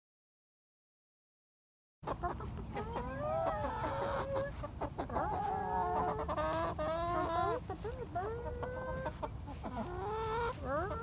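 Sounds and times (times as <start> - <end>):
hen calling: 2.1 - 11.0.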